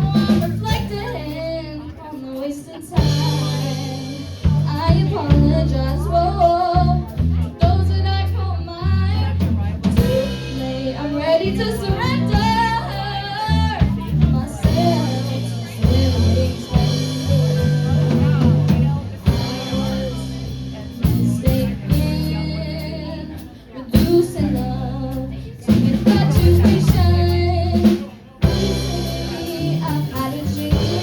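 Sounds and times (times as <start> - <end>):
live band playing: 0.0 - 31.0
person singing: 0.0 - 31.0.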